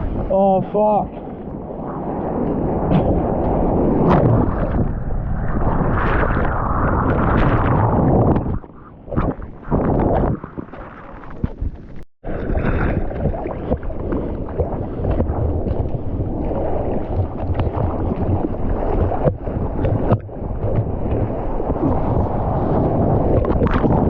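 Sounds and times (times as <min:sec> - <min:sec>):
water churning and rushing: 0:00.0 - 0:24.0
wind buffeting microphone: 0:00.0 - 0:24.0.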